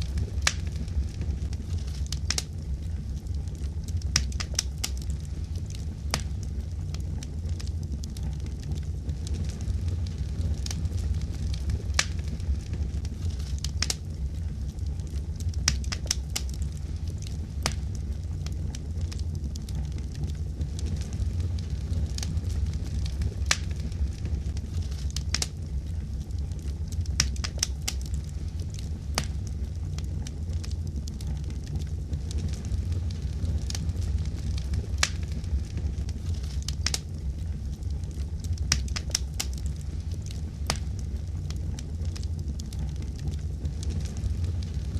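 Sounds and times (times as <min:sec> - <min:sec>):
fire pops and snaps: 0:00.0 - 0:44.9
low rumble of flames: 0:00.0 - 0:44.9
wood fire crackling: 0:00.0 - 0:44.9.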